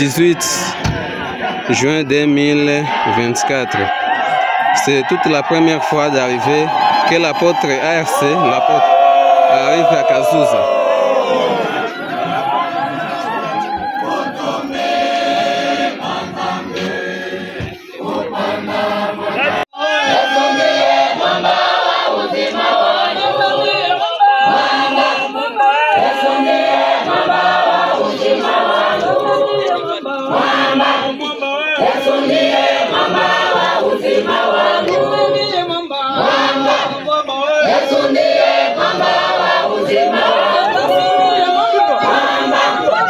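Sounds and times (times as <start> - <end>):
church choir singing: 0.0 - 43.0.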